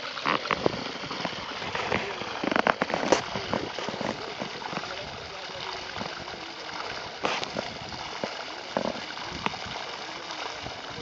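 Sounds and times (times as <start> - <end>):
water gushing and splashing: 0.0 - 11.0.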